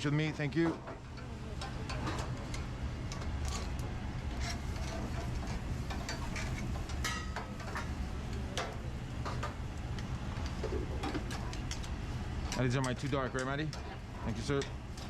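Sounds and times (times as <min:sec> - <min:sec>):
kitchen equipment hum: 0:00.0 - 0:15.0
utensils pans and dishes clattering: 0:00.5 - 0:09.6, 0:10.4 - 0:15.0.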